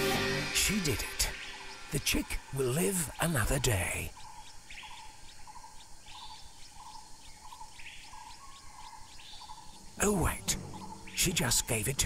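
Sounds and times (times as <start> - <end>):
higher bird chirps: 0.0 - 12.0.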